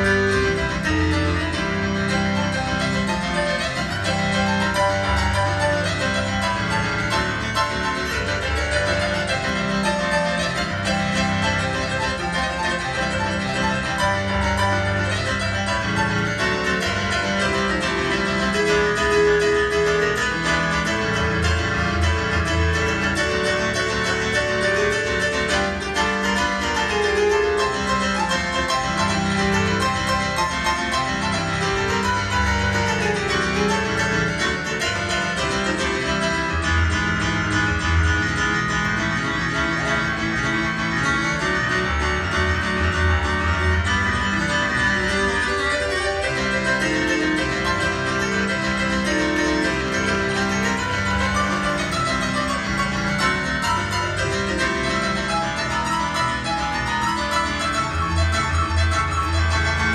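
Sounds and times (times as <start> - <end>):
solo piano: 0.0 - 59.9.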